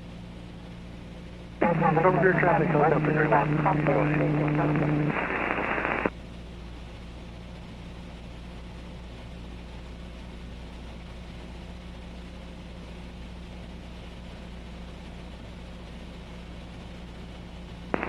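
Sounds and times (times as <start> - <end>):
airplane engine and propeller droning: 0.0 - 18.0.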